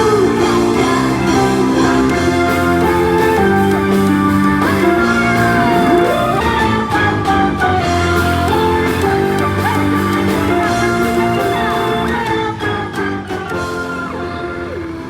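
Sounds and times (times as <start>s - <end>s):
digital keyboards playing worship song: 0.0s - 15.0s.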